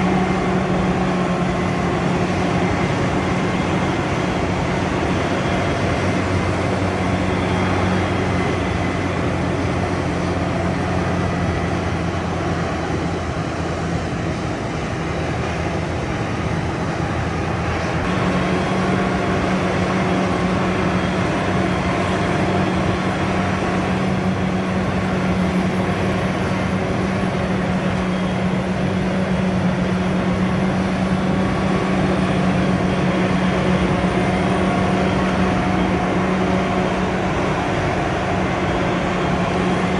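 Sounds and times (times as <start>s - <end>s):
diesel engines running under load: 0.0s - 39.9s.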